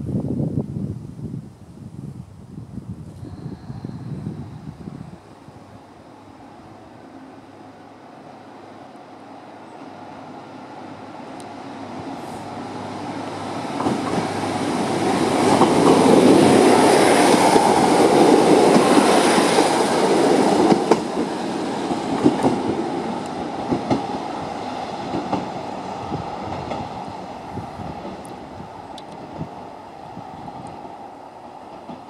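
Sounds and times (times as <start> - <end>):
diesel train engines passing: 3.2 - 32.0
train wheels on rails: 3.2 - 32.0.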